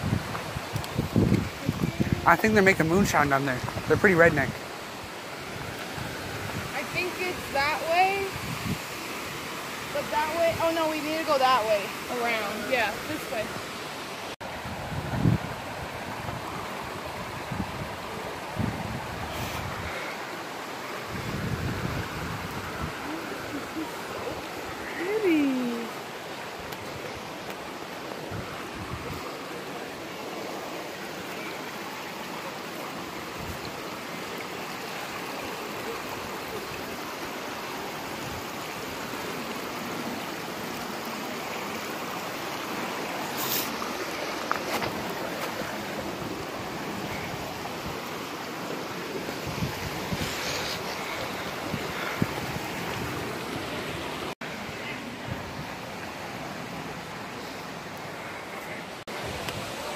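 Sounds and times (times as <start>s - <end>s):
creek water trickling over rocks: 0.0s - 59.9s.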